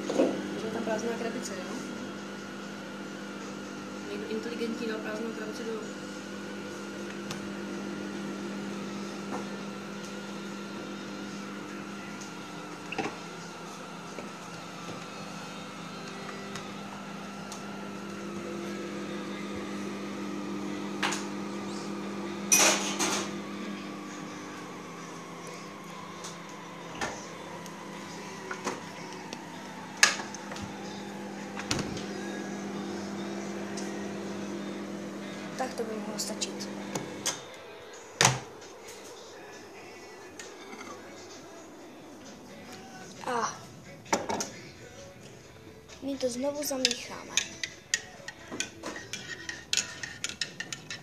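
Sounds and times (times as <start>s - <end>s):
microwave oven humming: 0.0s - 46.7s.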